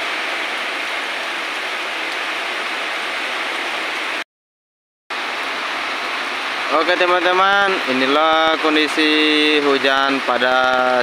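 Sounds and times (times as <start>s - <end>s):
heavy rain falling on plants: 0.0s - 4.2s, 5.1s - 11.0s.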